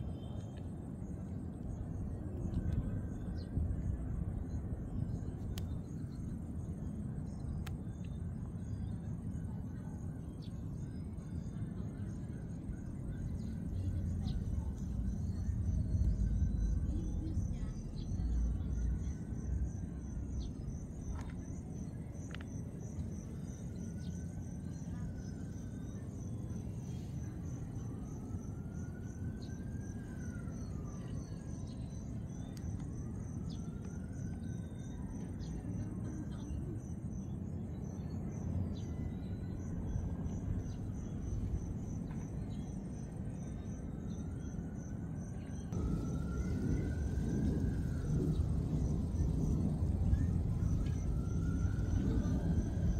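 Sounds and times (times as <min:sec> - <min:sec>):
insects chirping: 0:00.0 - 0:52.9
low outdoor rumble: 0:00.0 - 0:52.9.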